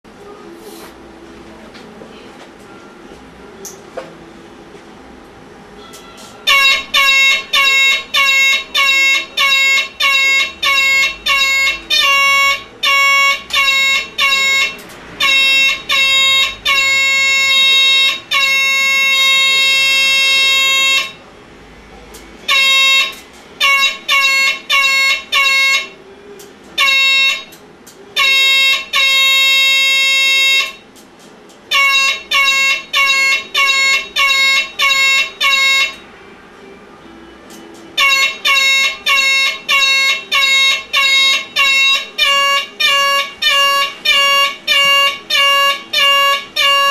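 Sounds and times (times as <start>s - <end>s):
motorcycle horn beeping: 5.8s - 21.2s, 22.4s - 30.9s, 31.7s - 36.1s, 37.5s - 46.9s.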